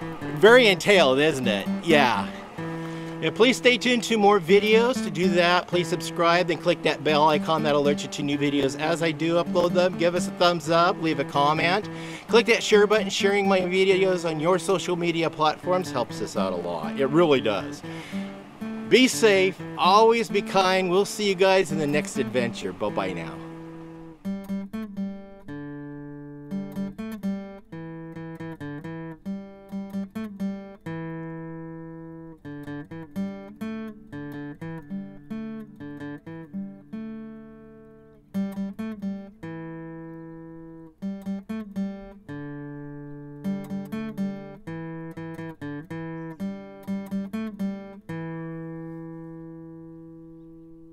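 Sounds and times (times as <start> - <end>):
solo acoustic guitar: 0.0 - 50.9.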